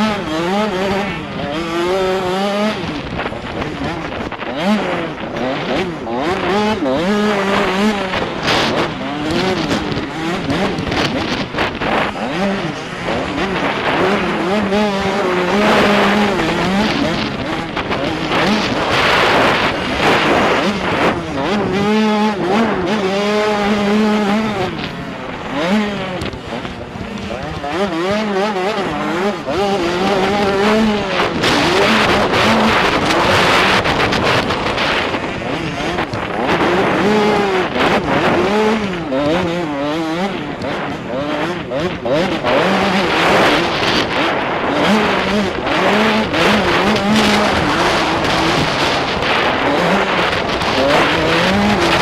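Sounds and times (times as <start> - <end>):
loud rushing noise: 0.0 - 52.0
motocross bike engine revving: 0.0 - 52.0.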